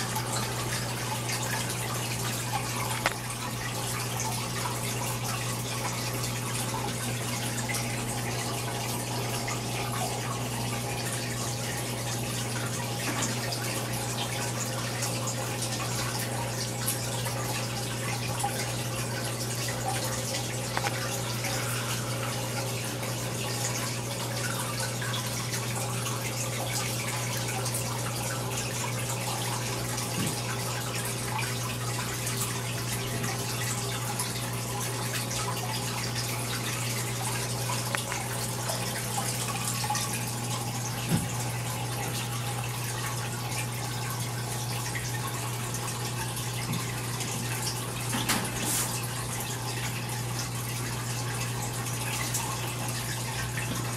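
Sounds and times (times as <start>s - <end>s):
water trickling and splashing: 0.0s - 53.9s.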